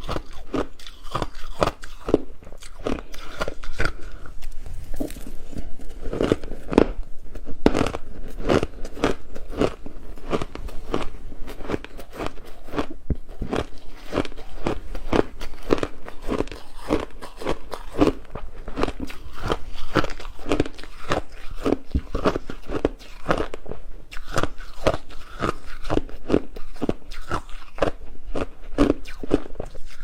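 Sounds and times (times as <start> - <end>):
ice crunching being chewed: 0.0 - 30.0.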